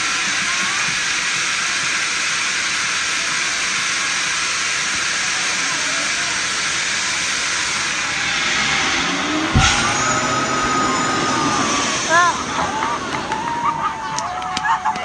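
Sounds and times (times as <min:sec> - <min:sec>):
air hissing from ride: 0:00.0 - 0:15.0.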